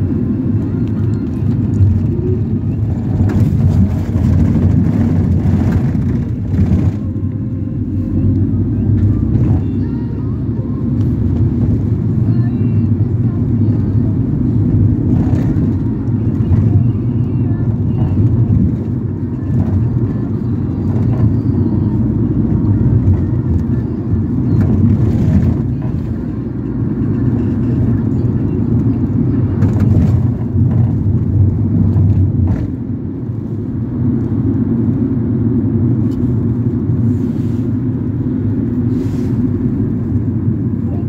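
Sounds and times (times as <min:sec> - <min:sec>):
vehicle engine and road rumble: 0:00.0 - 0:41.0.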